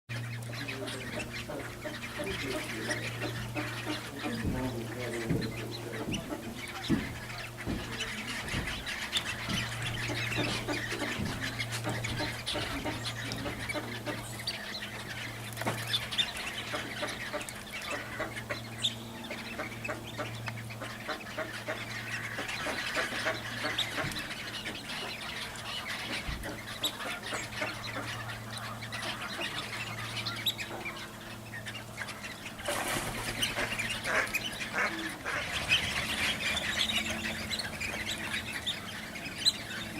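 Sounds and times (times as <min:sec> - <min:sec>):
ducks quacking: 0:00.1 - 0:39.9
steady low hum: 0:00.1 - 0:39.9.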